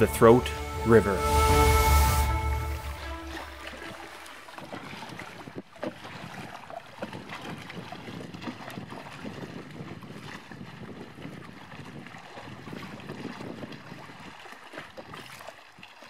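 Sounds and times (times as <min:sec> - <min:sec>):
water splashing and lapping: 0:00.0 - 0:16.0
wind noise on microphone: 0:01.0 - 0:15.4.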